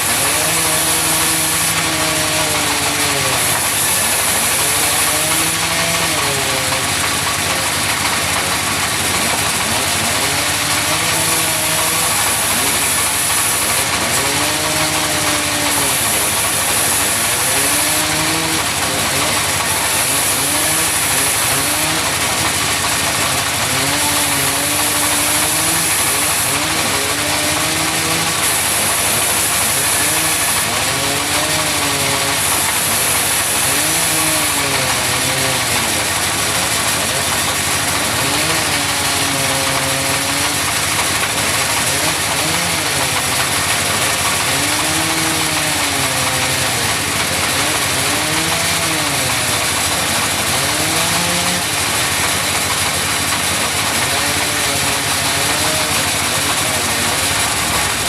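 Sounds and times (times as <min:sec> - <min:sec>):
high hiss of cutting: 0:00.0 - 0:07.0, 0:07.8 - 0:50.7
sawmill engine running: 0:00.0 - 0:58.0.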